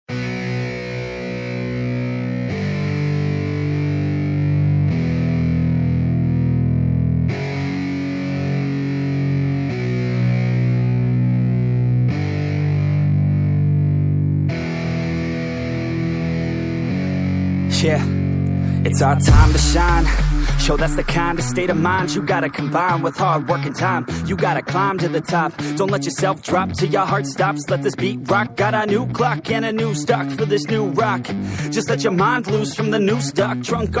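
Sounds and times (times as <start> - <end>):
distorted electric guitar chords: 0.1 - 34.0.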